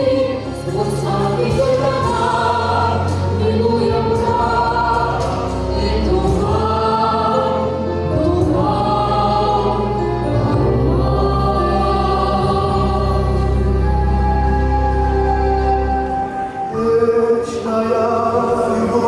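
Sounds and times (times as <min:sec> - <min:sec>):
steady bass: 0:00.0 - 0:15.9
choir singing held chords: 0:00.0 - 0:19.0.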